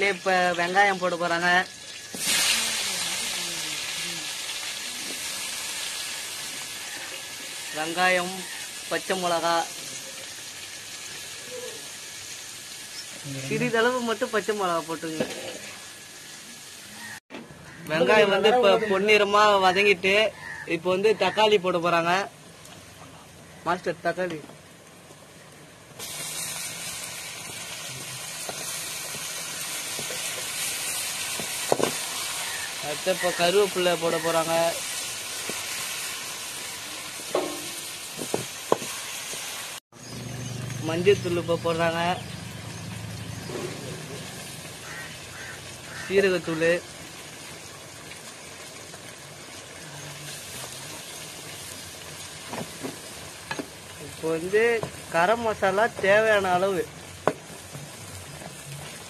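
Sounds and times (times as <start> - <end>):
tomatoes sizzling in hot oil: 0.0 - 59.0.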